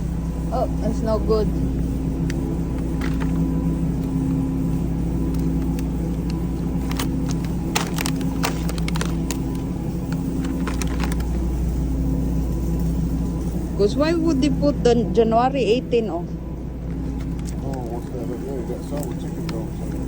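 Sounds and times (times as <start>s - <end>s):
supermarket background hum: 0.0s - 20.0s.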